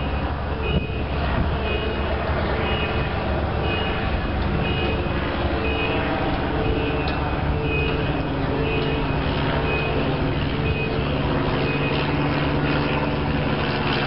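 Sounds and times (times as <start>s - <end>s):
electronic warning beeper: 0.0s - 13.7s.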